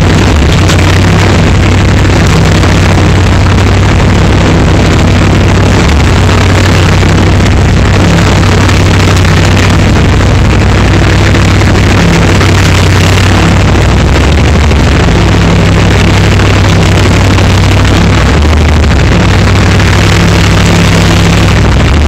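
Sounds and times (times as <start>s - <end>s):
diesel engine running loud: 0.0s - 22.0s.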